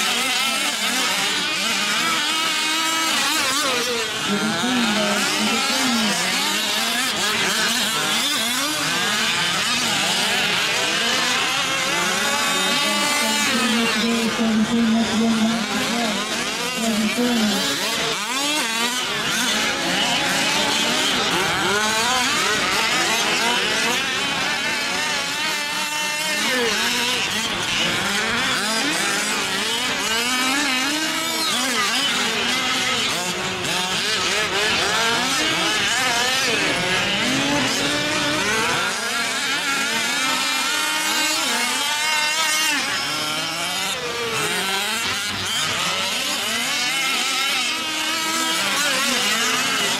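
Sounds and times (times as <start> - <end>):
small two-stroke engines revving: 0.0 - 49.9.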